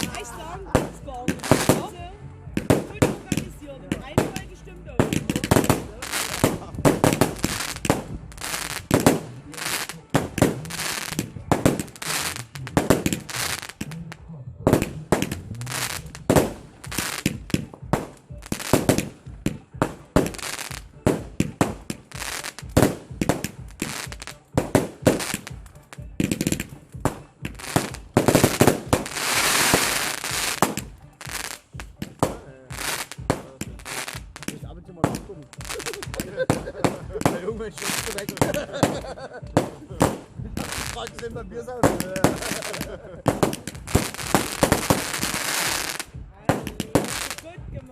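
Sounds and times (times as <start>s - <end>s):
hissing crackle of fireworks: 0.0s - 2.0s, 2.6s - 47.9s
firecrackers banging: 0.0s - 47.9s.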